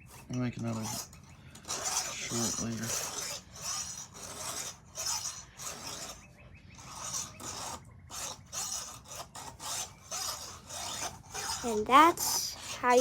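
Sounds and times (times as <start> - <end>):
file scraping chainsaw chain: 0.0 - 13.0.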